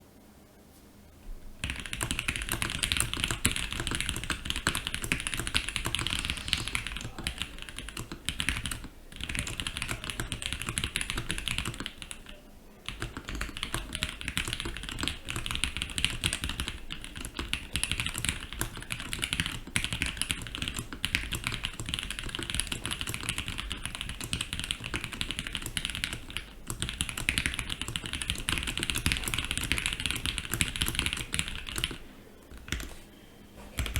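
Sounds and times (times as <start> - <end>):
fast typing on mechanical keyboard: 1.6 - 33.0.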